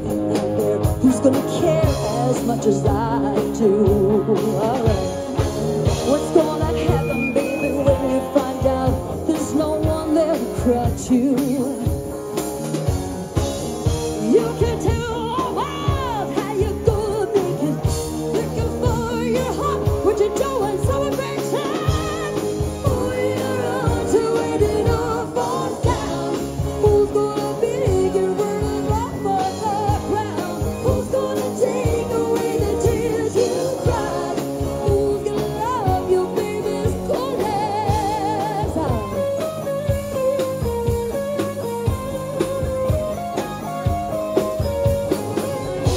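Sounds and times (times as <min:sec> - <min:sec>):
woman singing lead: 0:00.0 - 0:12.2, 0:14.1 - 0:42.9
drum kit beat: 0:00.0 - 0:45.9
electric guitars: 0:00.0 - 0:45.9.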